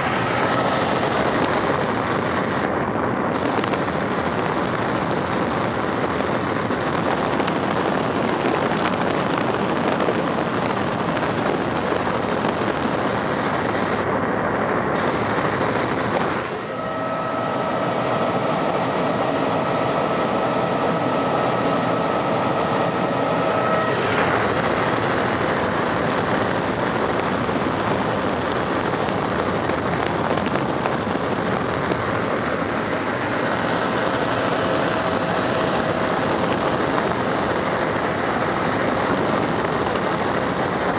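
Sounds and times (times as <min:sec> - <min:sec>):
helicopter rushing din: 0:00.0 - 0:40.9
high whine: 0:00.0 - 0:40.9.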